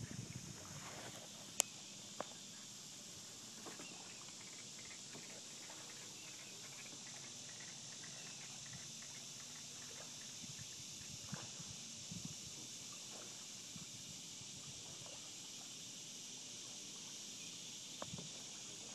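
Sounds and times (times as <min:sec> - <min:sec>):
steady high-pitched hiss: 0:00.0 - 0:18.9.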